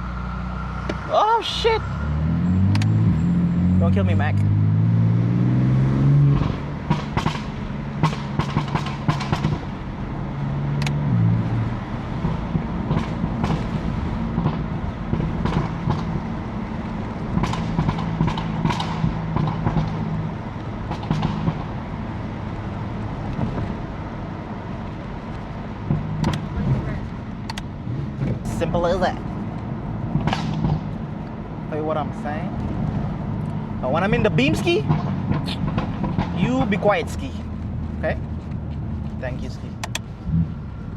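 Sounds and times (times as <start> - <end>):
car engine low drone: 0.0 - 40.9
exhaust pops and crackles: 6.3 - 24.1, 24.8 - 40.6.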